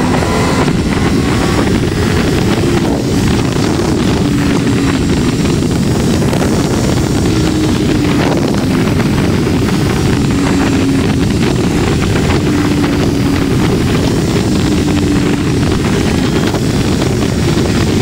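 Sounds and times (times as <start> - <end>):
motorcycle engine droning: 0.0 - 18.0
wind noise: 0.0 - 18.0.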